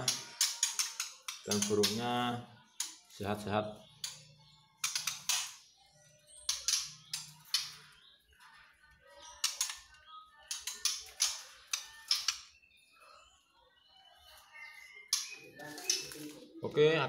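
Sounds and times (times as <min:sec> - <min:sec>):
birds rasping calls: 0:00.0 - 0:17.0.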